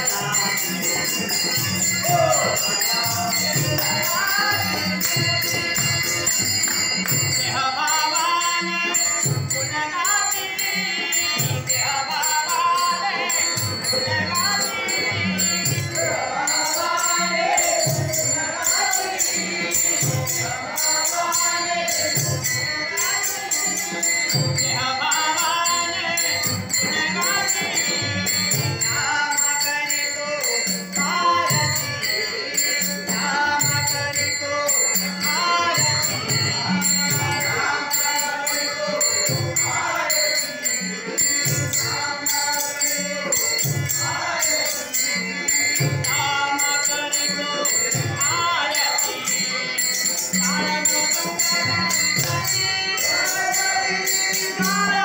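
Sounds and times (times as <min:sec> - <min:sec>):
man singing devotional song: 0:00.0 - 0:55.0
small hand cymbals jingling: 0:00.0 - 0:55.0.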